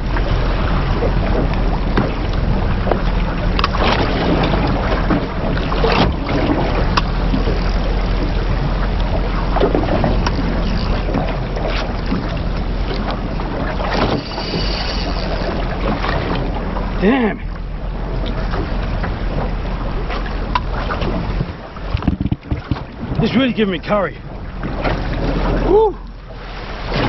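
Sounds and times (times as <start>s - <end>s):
water lapping against boat hull: 0.0s - 27.0s
wind buffeting microphone: 0.0s - 27.0s.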